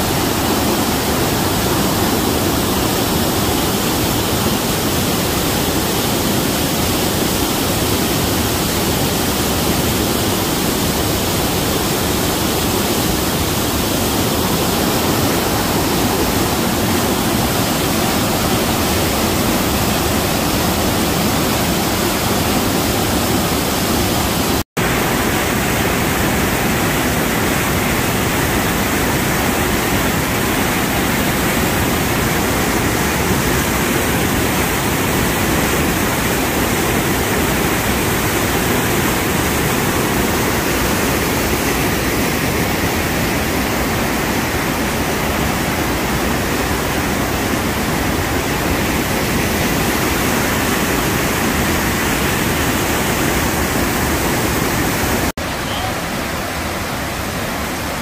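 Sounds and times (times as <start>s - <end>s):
whitewater rushing over boulders: 0.0s - 58.0s.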